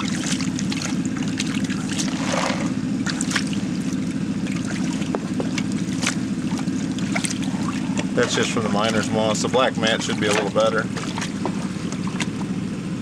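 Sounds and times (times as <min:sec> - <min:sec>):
water sloshing in plastic pan: 0:00.0 - 0:12.6
engine hum: 0:00.0 - 0:13.0.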